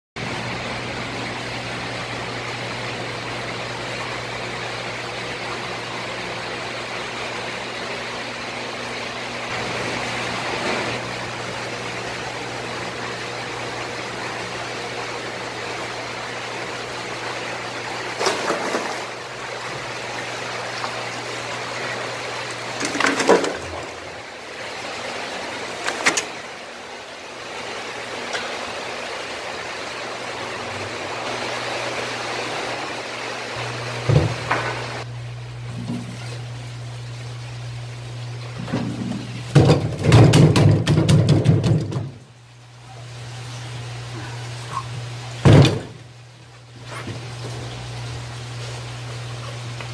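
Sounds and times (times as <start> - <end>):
aerated water circulating in tank: 0.2 - 49.9
low pump hum: 0.2 - 49.9.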